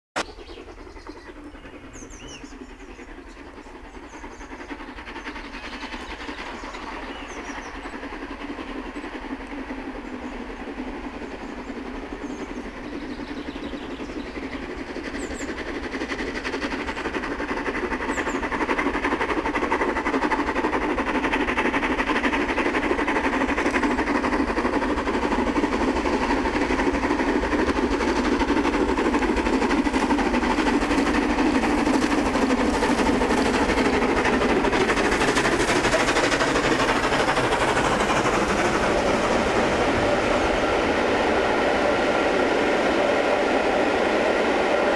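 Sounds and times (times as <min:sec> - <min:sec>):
steam locomotive approaching: 0:00.2 - 0:44.9.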